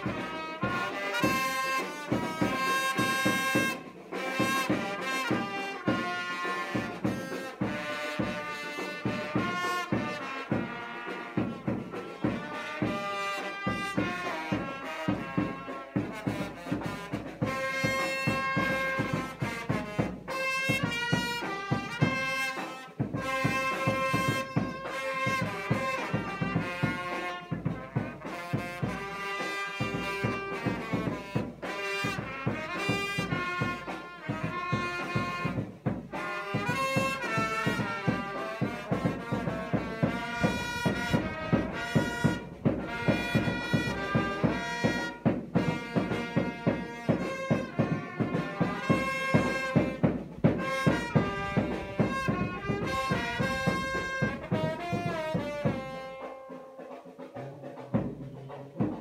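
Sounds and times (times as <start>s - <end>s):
brass band with trumpets: 0.0s - 59.0s
steady drum beat: 0.0s - 59.0s.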